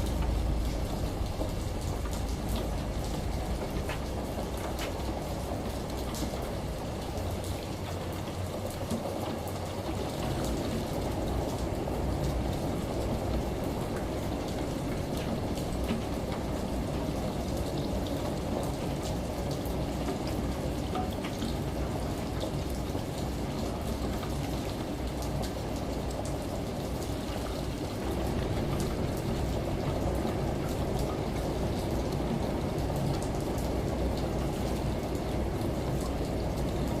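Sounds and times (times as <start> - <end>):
shower water running: 0.0 - 37.0
steady rain: 0.0 - 37.0
washing machine rumble: 0.0 - 37.0
water drips: 0.0 - 37.0.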